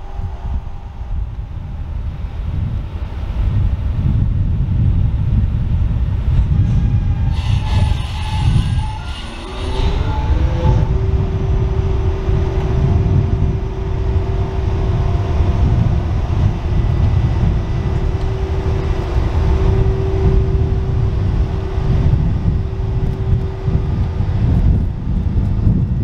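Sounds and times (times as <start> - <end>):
steady humming tone: 0.0 - 26.0
train rumbling slowly: 0.0 - 26.0.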